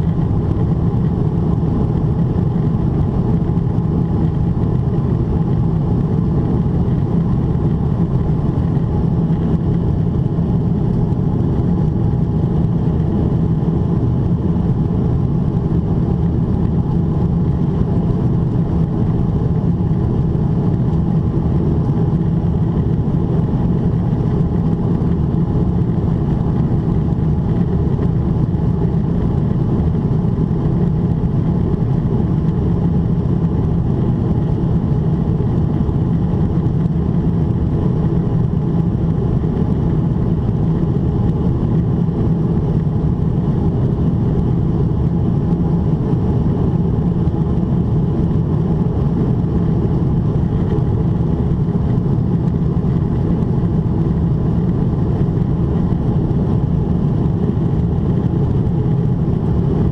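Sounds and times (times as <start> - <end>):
airflow over fuselage: 0.0 - 59.9
airplane cabin engine rumble: 0.0 - 59.9.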